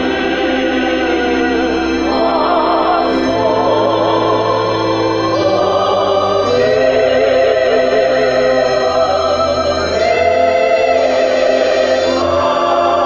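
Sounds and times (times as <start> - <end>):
choir-like voices: 0.0 - 13.0
electronic keyboard playing hymn chords: 0.0 - 13.0.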